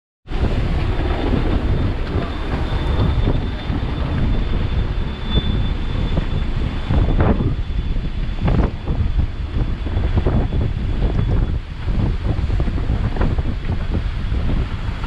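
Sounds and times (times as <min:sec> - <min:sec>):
faint high whine: 0:00.3 - 0:15.0
wind buffeting microphone: 0:00.3 - 0:15.0.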